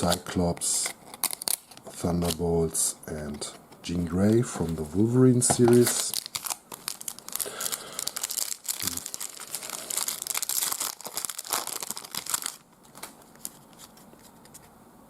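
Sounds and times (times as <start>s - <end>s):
card pack wrapper crinkling: 0.0s - 2.6s, 3.8s - 14.7s.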